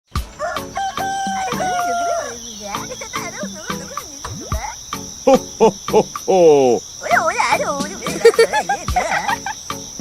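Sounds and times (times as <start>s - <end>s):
insects chirring: 0.1s - 10.0s
warbling animal calls: 0.6s - 10.0s.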